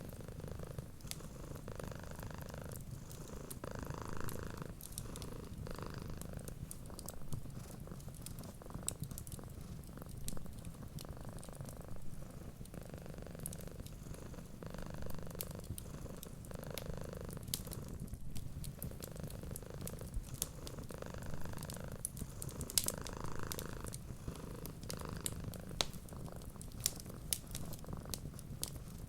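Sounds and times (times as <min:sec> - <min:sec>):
cat purring: 0:00.0 - 0:29.0
wood fire crackling: 0:00.2 - 0:29.0.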